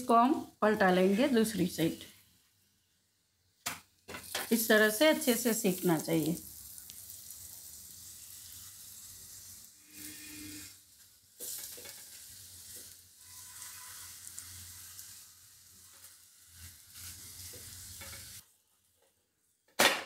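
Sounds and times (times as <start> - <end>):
oil sizzling on a griddle: 1.1 - 19.0.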